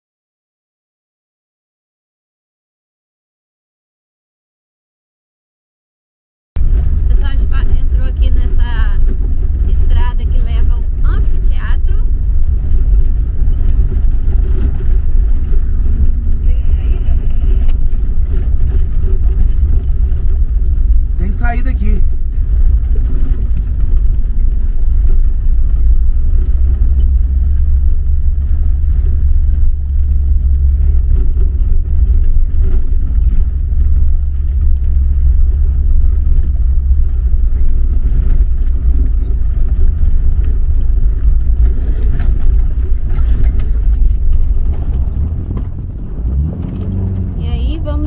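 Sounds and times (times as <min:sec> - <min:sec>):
van engine and road noise: 0:06.6 - 0:48.0.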